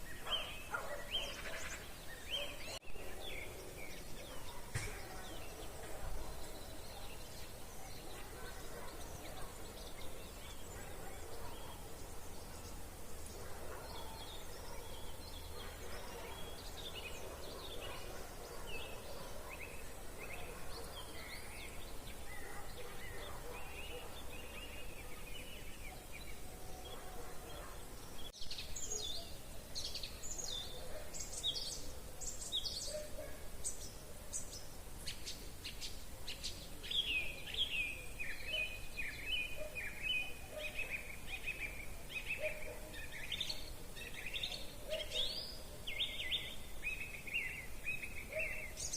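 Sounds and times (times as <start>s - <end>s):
songbirds singing and chirping: 0.0s - 48.9s.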